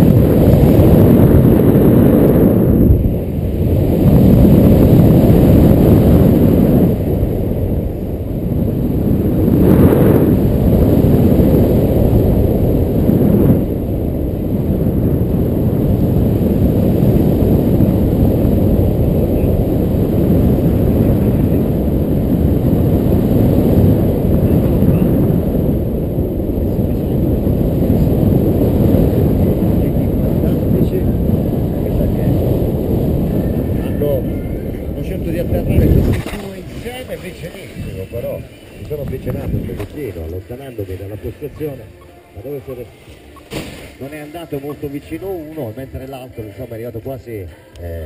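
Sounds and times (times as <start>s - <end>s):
heavy wind rumble on microphone: 0.0s - 48.0s.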